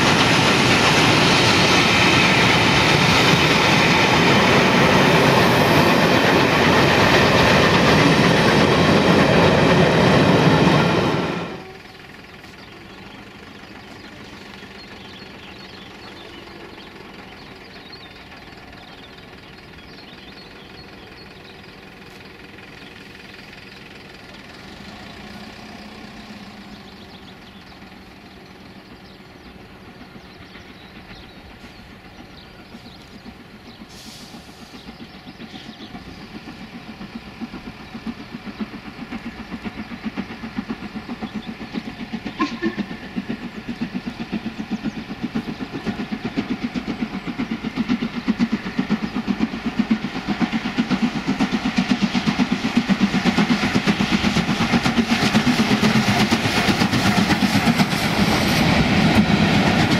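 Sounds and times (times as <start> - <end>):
steam locomotive exhaust beats: 0.0 - 59.9
steam locomotive rumble: 0.0 - 59.9.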